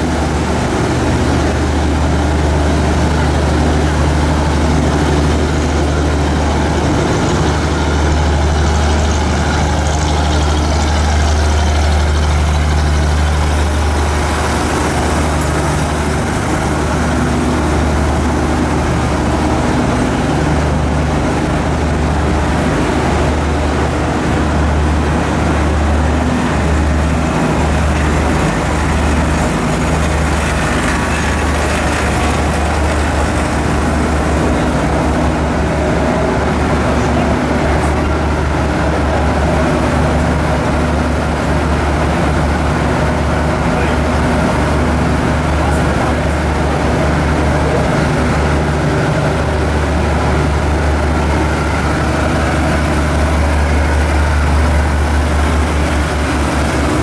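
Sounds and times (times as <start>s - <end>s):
diesel train engine humming: 0.0s - 57.0s.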